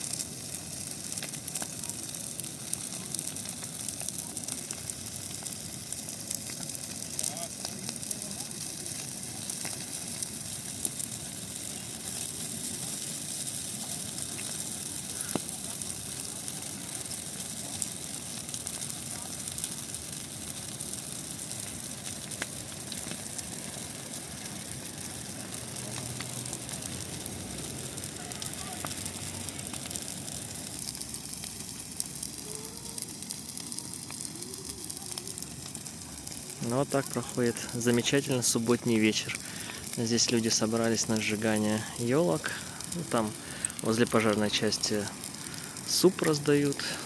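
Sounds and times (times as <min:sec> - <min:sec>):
bonfire flames hissing: 0:00.0 - 0:47.0
fire crackling and popping: 0:00.0 - 0:47.0.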